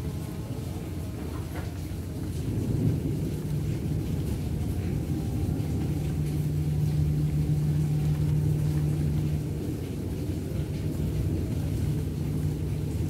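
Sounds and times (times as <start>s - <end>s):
low steady rumble: 0.0s - 13.0s
steady hum: 2.4s - 13.0s.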